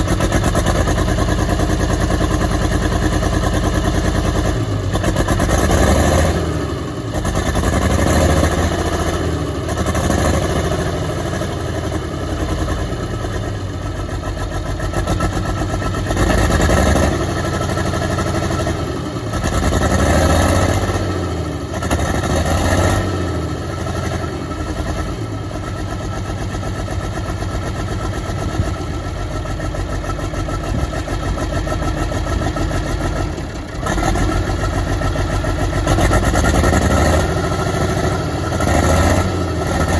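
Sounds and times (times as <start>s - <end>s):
diesel engine misfiring and revving: 0.0s - 39.9s.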